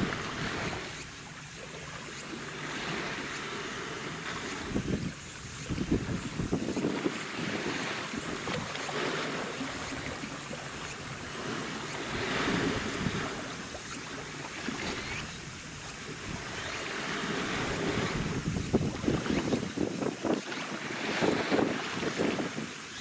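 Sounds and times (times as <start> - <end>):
sea waves washing: 0.0 - 23.0.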